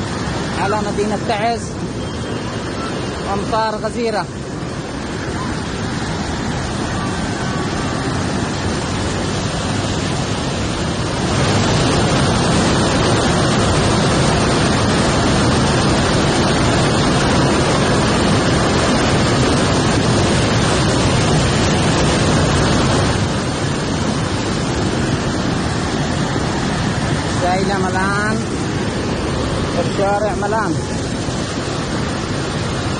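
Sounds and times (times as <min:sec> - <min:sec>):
floodwater rushing: 0:00.0 - 0:32.9
torrential rain: 0:00.0 - 0:32.9.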